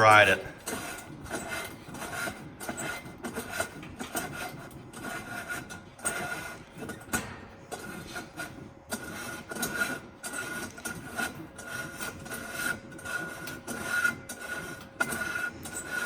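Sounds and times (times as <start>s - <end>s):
scraping and rubbing noises: 0.0s - 16.0s.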